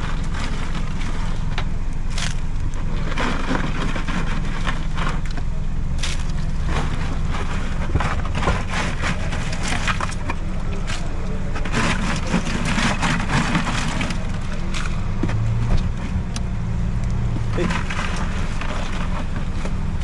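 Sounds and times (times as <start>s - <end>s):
crabs scrabbling: 0.0s - 16.4s, 17.5s - 20.0s
low motor drone: 0.0s - 20.0s.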